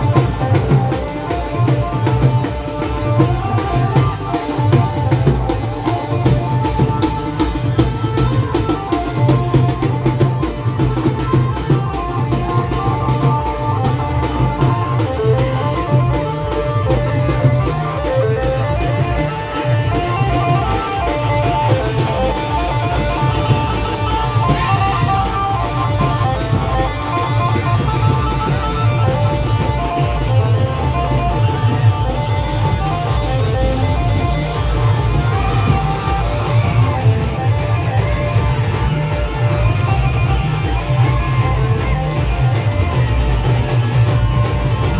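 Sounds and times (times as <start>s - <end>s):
band music with fast drumbeat: 0.0s - 44.9s.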